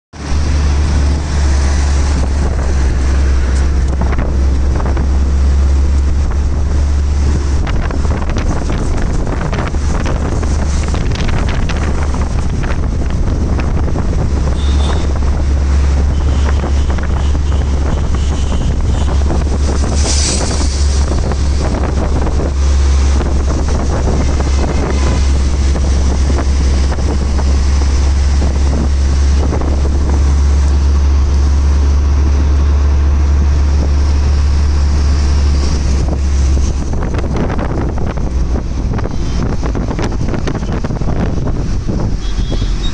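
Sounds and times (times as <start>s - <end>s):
auto-rickshaw engine rumble: 0.1s - 42.9s
wind buffeting microphone: 0.2s - 42.9s.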